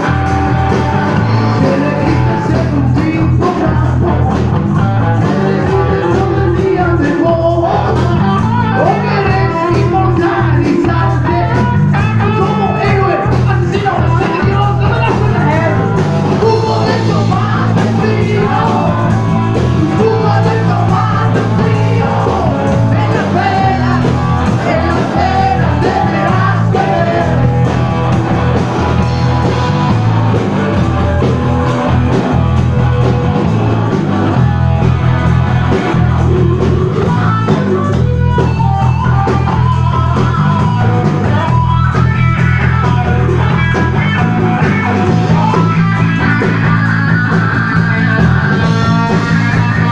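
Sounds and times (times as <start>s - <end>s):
person singing: 0.0s - 27.8s, 34.4s - 49.9s
guitar: 0.0s - 49.9s
heavy bass: 0.0s - 49.9s.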